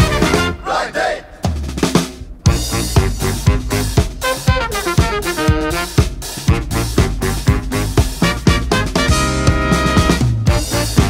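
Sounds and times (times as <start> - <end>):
instrumental funk band: 0.0 - 0.8, 1.5 - 11.0
drum kit beat: 0.0 - 11.0.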